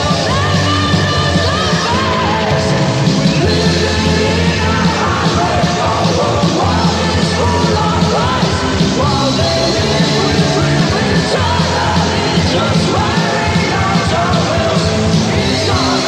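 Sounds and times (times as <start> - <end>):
heavy rock band playing: 0.0 - 16.0
person yelling and singing: 0.0 - 16.0.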